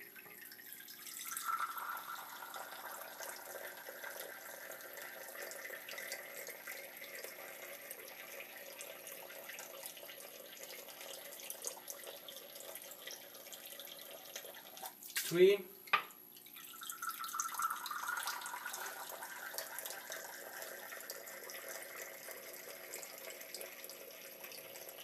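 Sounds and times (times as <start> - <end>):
water trickling into sink: 0.0 - 15.1, 16.4 - 25.0.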